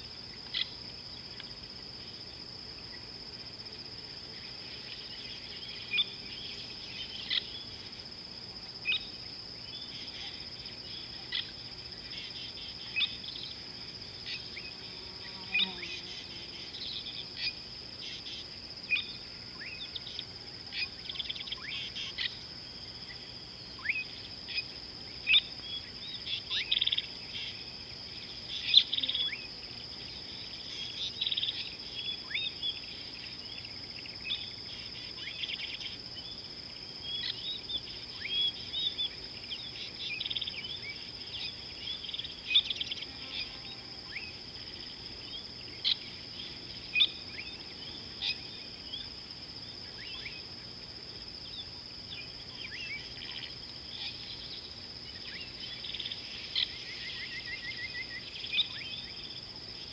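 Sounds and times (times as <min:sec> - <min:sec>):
high-pitched insect drone: 0:02.0 - 0:36.0, 0:37.1 - 0:59.9.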